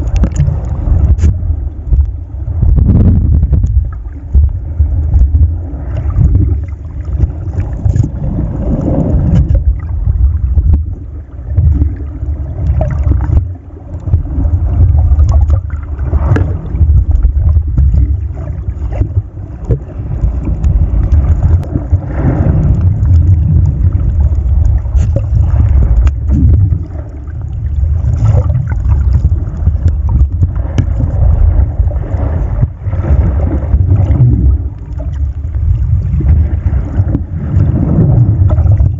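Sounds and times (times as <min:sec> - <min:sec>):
gurgling swish of water: 0:00.0 - 0:38.9
underwater water rumble: 0:00.0 - 0:38.9.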